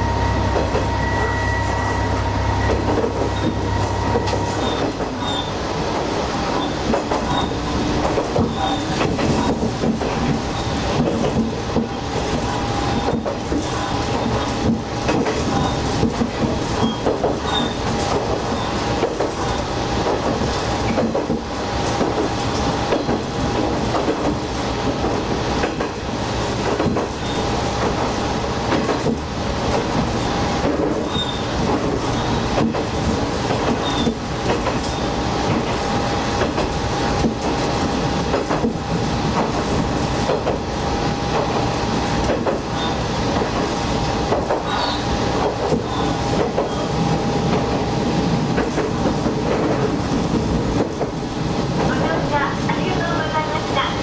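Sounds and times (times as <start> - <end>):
railcar engine drone: 0.0 - 54.0
wheels clacking over rail joints: 2.6 - 52.8.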